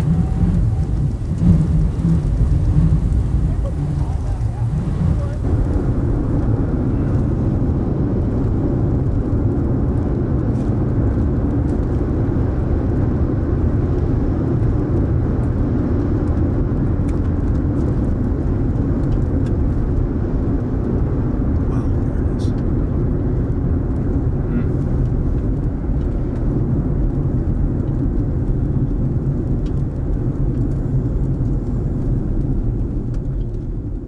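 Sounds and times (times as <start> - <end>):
road and engine noise in car: 0.0 - 34.0.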